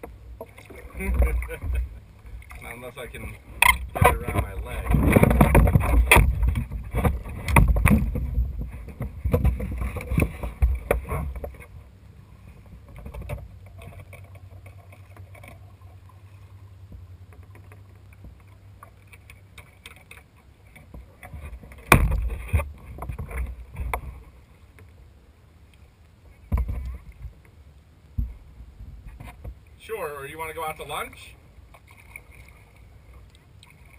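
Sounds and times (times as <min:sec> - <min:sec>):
paddle splashing and dripping: 0:00.0 - 0:25.0, 0:25.6 - 0:33.9.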